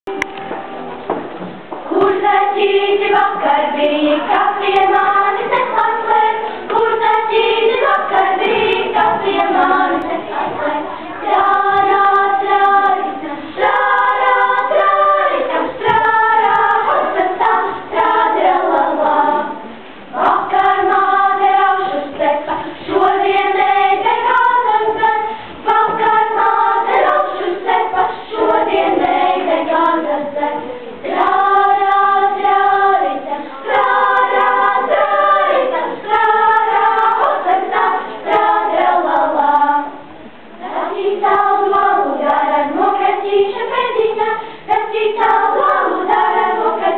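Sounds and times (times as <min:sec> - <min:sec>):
children's choir singing: 0:00.1 - 0:46.9.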